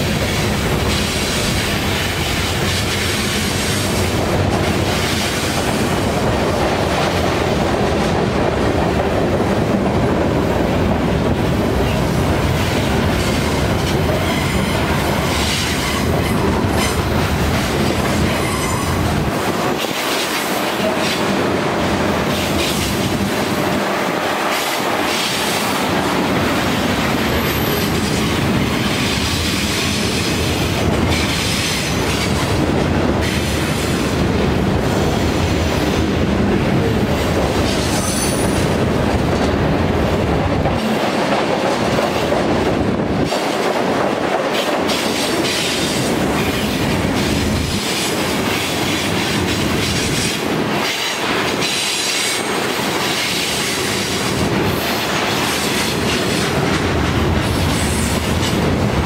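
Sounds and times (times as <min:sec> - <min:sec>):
rail clicks and clatter: 0:00.0 - 0:59.0
train wheels rumbling on rails: 0:00.0 - 0:59.0.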